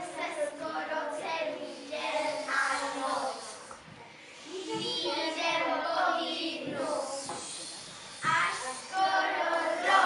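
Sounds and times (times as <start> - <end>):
children's voices: 0.0 - 10.0.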